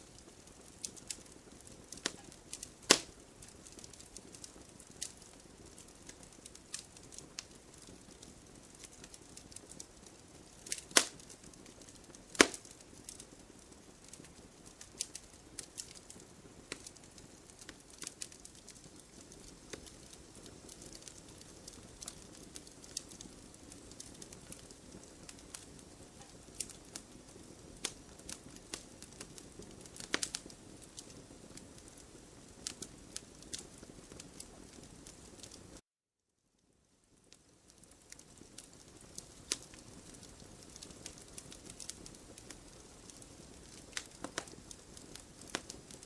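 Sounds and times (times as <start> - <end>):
wood fire crackling: 0.0 - 35.8, 36.6 - 46.0.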